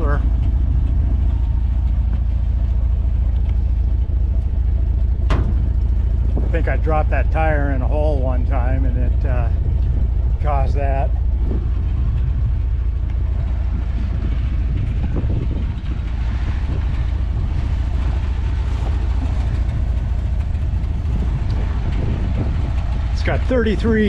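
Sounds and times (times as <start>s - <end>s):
engine idling exhaust rumble: 0.0s - 24.0s.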